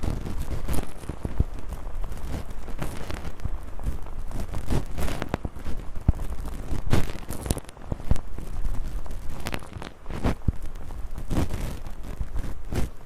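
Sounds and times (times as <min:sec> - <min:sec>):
close microphone scraping and rubbing: 0:00.0 - 0:13.0.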